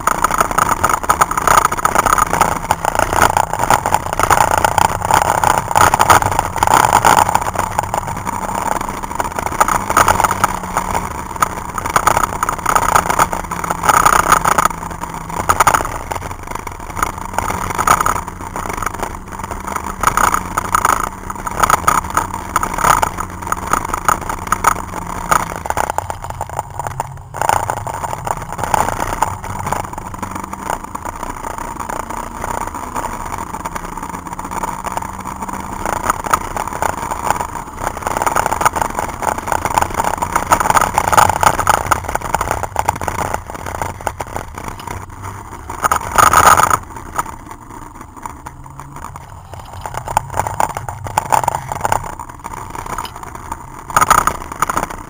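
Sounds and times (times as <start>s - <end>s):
car engine revving: 0.0s - 55.0s
road noise: 0.0s - 55.0s.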